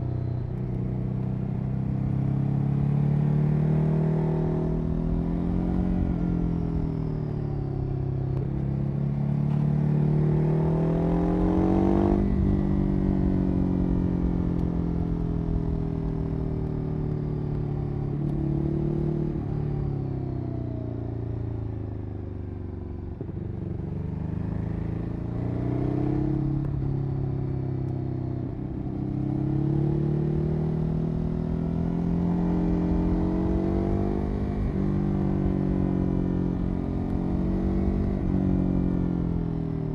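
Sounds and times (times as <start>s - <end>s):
motorcycle engine revving: 0.0s - 20.2s, 23.2s - 39.9s.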